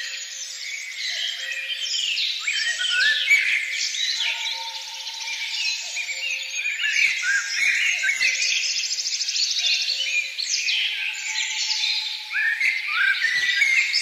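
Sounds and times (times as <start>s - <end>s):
songbirds chirping and whistling: 0.0s - 14.0s.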